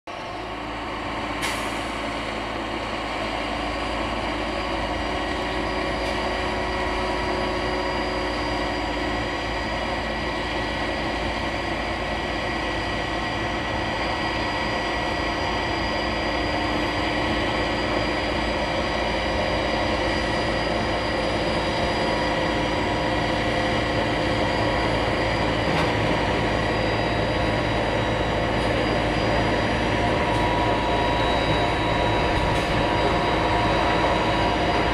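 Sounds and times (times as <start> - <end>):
snow blower running: 0.1 - 34.9.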